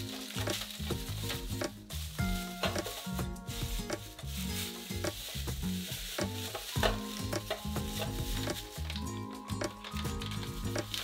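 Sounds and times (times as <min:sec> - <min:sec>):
plastic bags rustling: 0:00.0 - 0:11.0
soft background music: 0:00.0 - 0:11.0.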